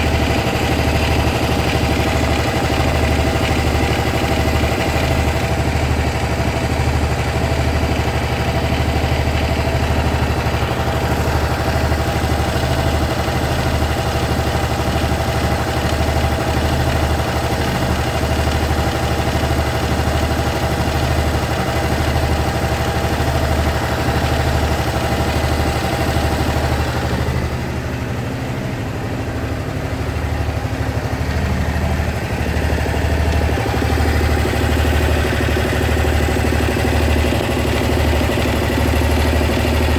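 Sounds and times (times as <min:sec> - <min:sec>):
engine ticking: 0:00.0 - 0:39.9
scooter engine idling: 0:00.0 - 0:39.9.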